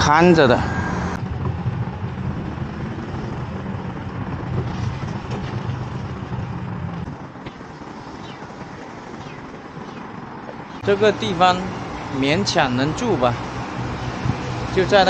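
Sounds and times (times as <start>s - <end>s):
low engine hum: 0.0s - 15.0s
rumble of passing vehicles: 0.0s - 15.0s.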